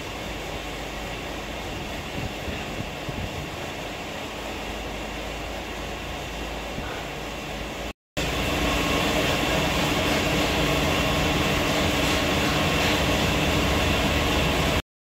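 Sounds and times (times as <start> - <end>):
machine humming: 0.0 - 14.8.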